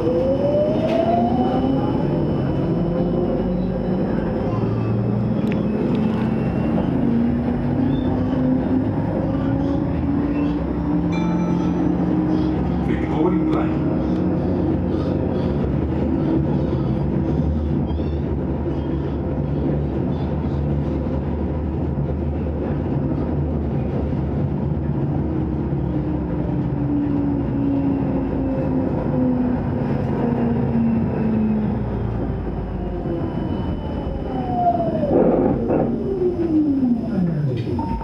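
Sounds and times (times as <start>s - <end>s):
tram brakes whining: 0.0s - 20.6s, 25.7s - 38.0s
tram rumbling: 0.0s - 38.0s.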